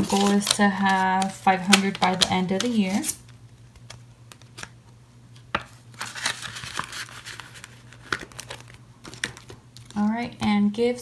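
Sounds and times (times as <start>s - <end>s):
paper and plastic rustling: 0.0s - 4.7s, 5.4s - 10.1s.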